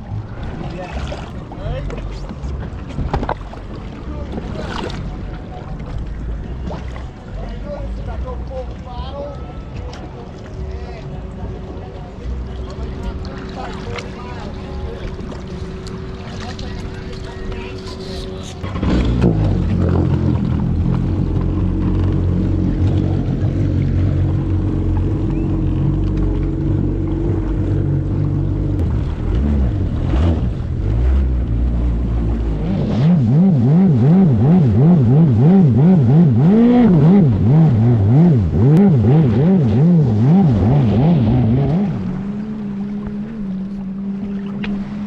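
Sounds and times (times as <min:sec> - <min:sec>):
jet ski engine running: 0:00.0 - 0:45.0.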